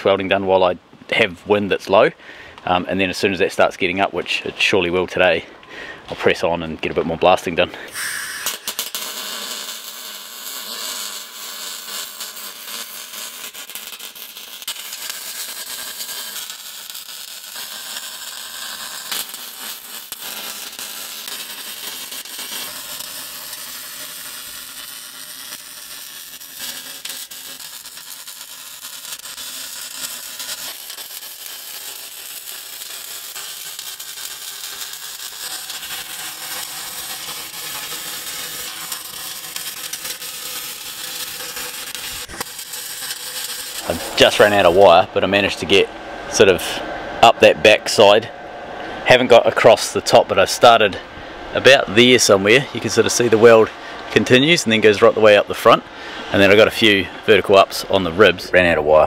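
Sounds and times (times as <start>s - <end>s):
welding arc crackling hiss: 7.3s - 58.7s.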